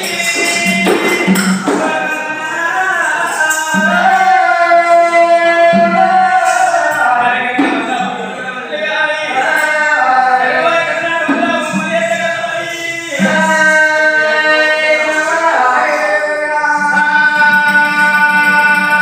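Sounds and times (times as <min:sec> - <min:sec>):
folk singers singing together: 0:00.0 - 0:19.0.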